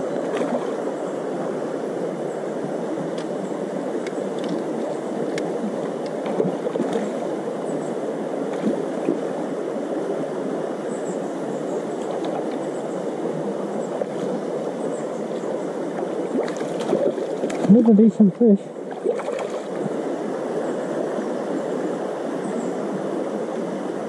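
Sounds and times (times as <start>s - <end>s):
river flowing over stones: 0.0s - 24.0s.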